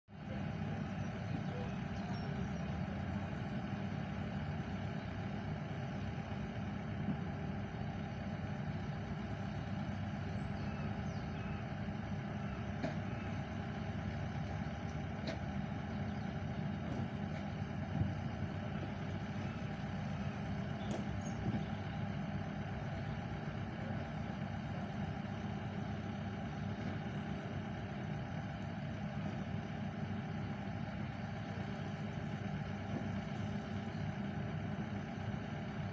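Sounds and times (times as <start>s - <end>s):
low engine drone idling: 0.1s - 35.9s.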